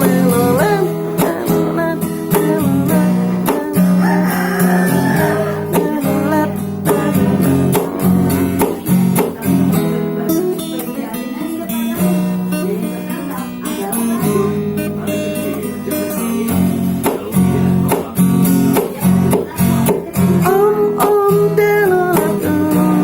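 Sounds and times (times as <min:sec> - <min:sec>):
instrumental music with steady beat: 0:00.0 - 0:23.0.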